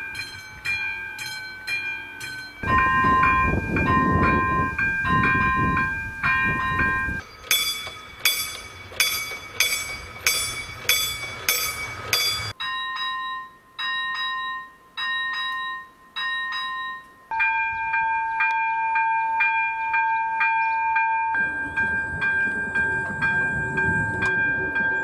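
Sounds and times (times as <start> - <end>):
passing train rumble: 0.0 - 12.6, 17.3 - 25.0
level-crossing warning bells: 0.0 - 25.0.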